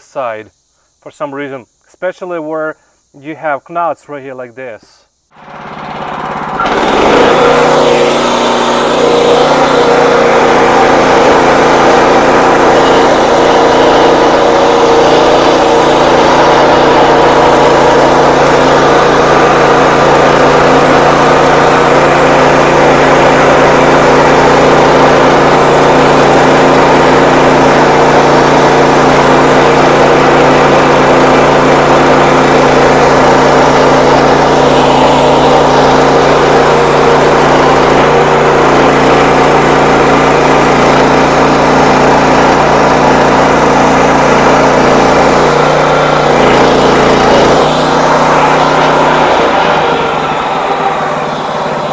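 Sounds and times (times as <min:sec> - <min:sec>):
band sawmill cutting log: 0:05.4 - 0:51.9.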